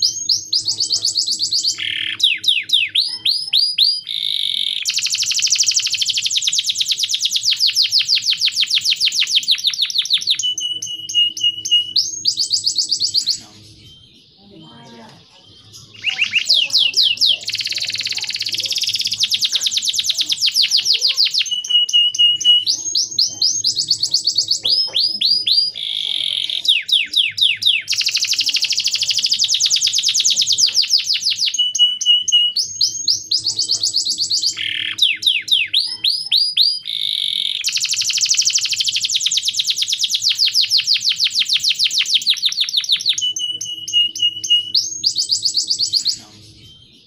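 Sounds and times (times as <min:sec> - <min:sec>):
canary singing fast trills: 0:00.0 - 0:47.0.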